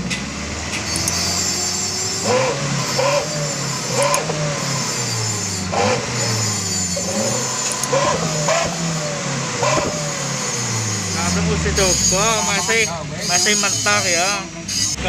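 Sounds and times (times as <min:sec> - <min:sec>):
car engine revving: 0:00.0 - 0:15.0
howling exhaust whistle: 0:00.0 - 0:15.0
steady engine drone: 0:00.0 - 0:15.0.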